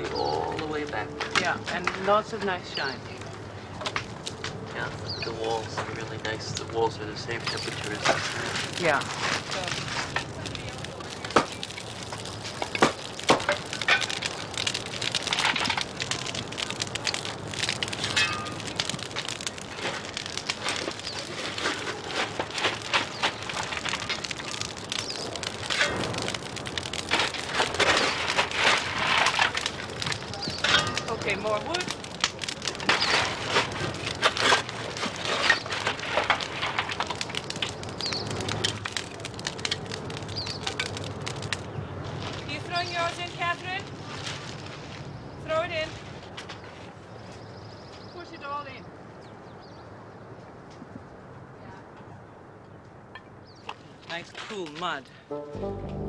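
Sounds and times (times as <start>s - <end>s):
wood fire crackling and popping: 0.0s - 55.2s.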